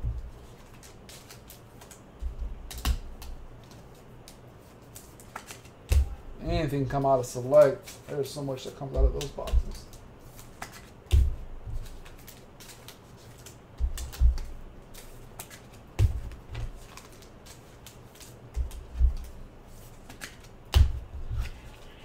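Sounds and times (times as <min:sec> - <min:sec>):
cards clicking and flicking: 0:00.4 - 0:02.0, 0:02.6 - 0:06.2, 0:06.9 - 0:22.0.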